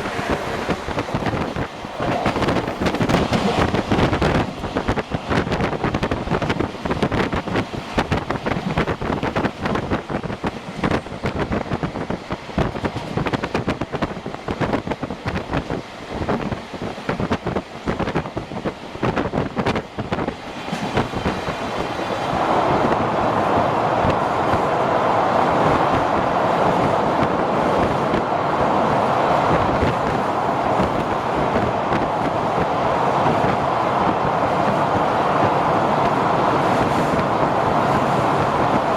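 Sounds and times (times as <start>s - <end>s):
train clatter and rattling: 0.0s - 38.9s
train running noise: 0.0s - 38.9s
wind buffeting microphone: 0.0s - 38.9s.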